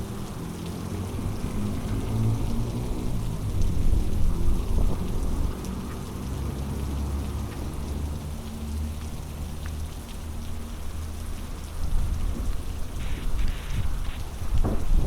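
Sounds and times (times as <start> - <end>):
heavy rain falling: 0.0 - 15.0
drops ticking on a surface: 0.1 - 15.0.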